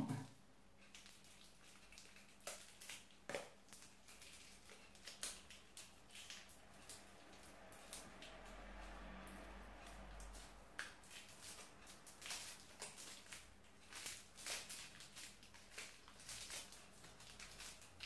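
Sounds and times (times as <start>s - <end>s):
plastic bag rustling: 0.8s - 8.2s, 10.2s - 18.0s.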